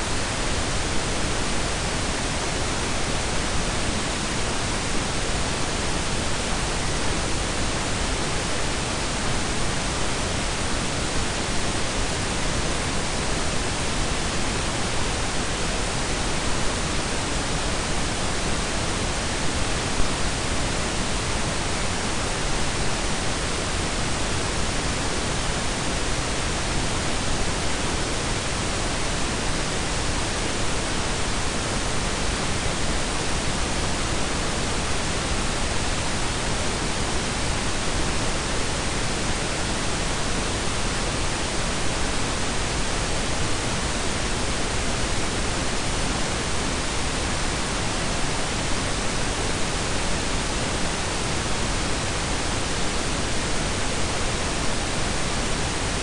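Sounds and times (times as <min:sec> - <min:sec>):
pink and brown noise hiss: 0:00.0 - 0:56.0.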